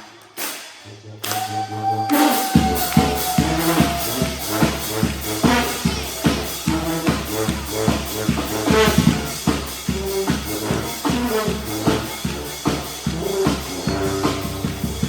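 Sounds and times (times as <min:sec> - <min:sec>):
upbeat dance music: 0:02.3 - 0:15.0.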